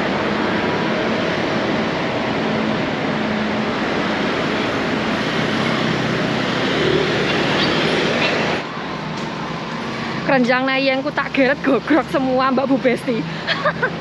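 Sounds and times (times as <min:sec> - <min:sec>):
road noise rush: 0:00.0 - 0:14.0
scooters and cars passing: 0:00.0 - 0:14.0.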